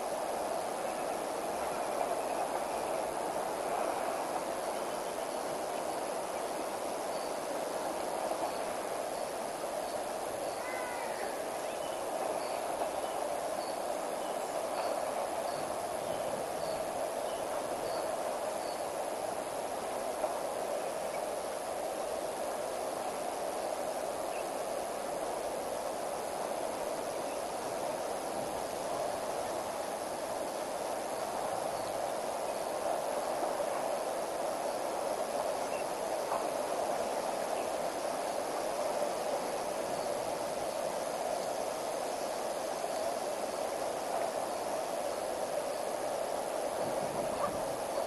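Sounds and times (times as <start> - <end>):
river water flowing over rocks: 0.0 - 48.0.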